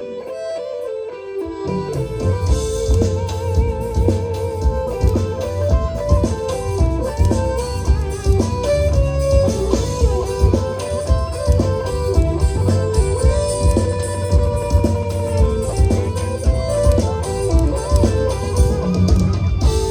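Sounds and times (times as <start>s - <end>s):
guitar: 0.0s - 19.9s
live band playing: 0.0s - 19.9s.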